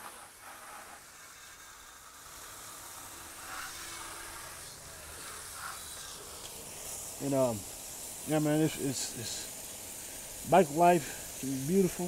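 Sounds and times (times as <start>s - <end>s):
spray cleaner hissing: 0.0s - 12.0s.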